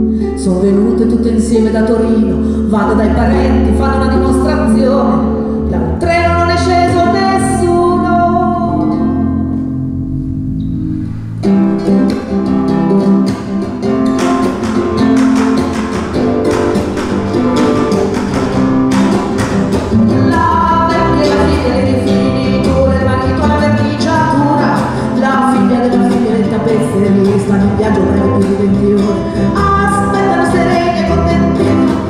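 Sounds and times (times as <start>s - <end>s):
double bass: 0.0s - 32.0s
guitar rapid plucking: 0.0s - 32.0s.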